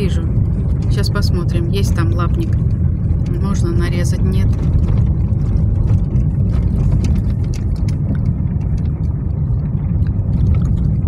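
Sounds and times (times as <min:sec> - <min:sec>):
car engine and tyres rumbling: 0:00.0 - 0:11.0
knocks and rattles from rough road: 0:00.0 - 0:11.0.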